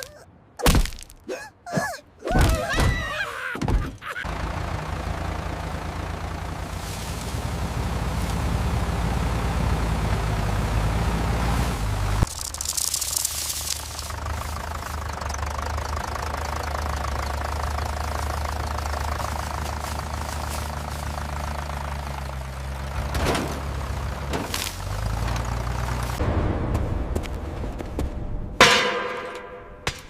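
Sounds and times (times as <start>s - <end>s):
tractor engine running: 3.9s - 30.0s.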